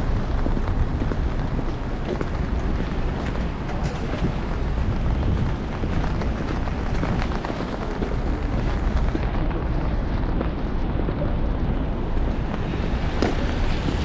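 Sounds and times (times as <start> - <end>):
street ambience: 0.0 - 14.0
wind buffeting microphone: 0.0 - 14.0.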